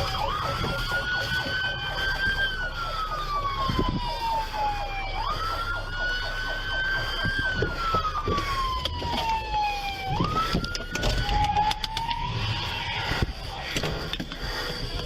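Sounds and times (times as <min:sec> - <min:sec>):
lower siren: 0:00.0 - 0:15.0
police siren wailing: 0:00.0 - 0:15.0
road noise: 0:00.0 - 0:15.0.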